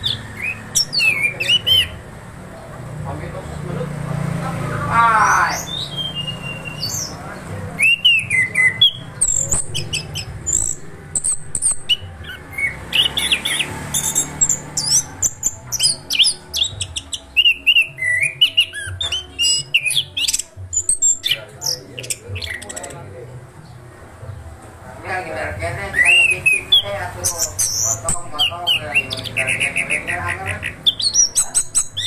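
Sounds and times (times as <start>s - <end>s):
thrush singing: 0.0s - 32.0s.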